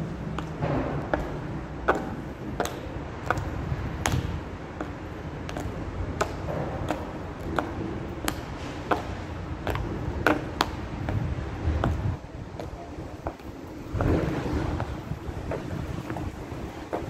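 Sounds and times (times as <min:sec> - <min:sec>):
heels clicking on paving stones: 0:00.0 - 0:17.0.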